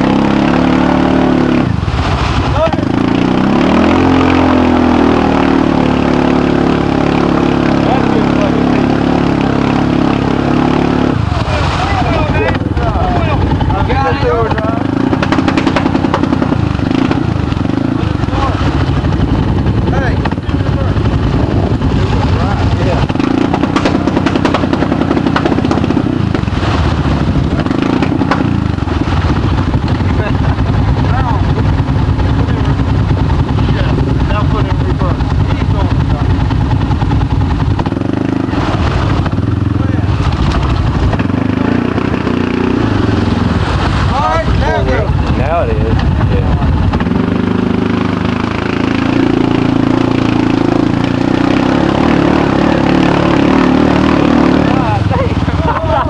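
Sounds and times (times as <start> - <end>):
atv engine revving: 0.0 - 56.0
rapid clatter: 10.8 - 56.0.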